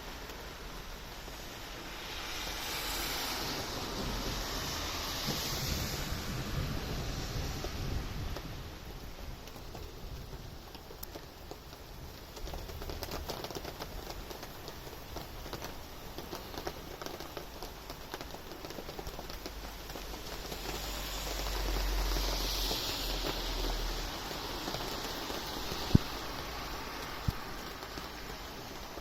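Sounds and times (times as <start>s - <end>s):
rain pattering: 0.0s - 29.0s.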